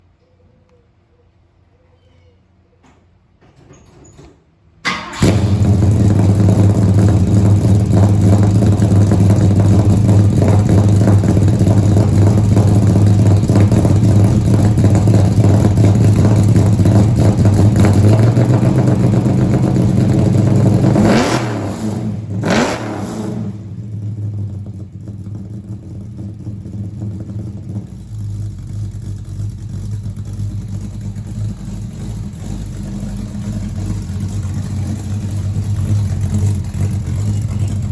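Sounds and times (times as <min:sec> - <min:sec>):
car engine starting and revving: 0:04.9 - 0:37.9.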